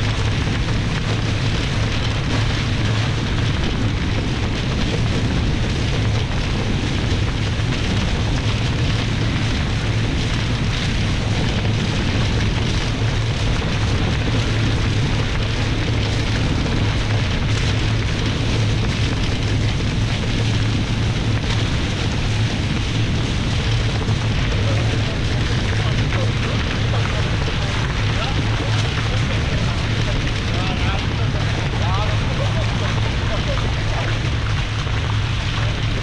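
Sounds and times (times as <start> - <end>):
deep rumble: 0.0 - 36.0
wind buffeting the microphone: 0.0 - 36.0.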